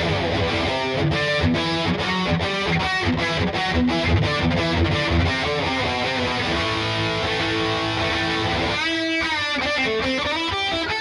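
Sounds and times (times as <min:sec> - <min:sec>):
distorted electric guitar riff: 0:00.0 - 0:11.0.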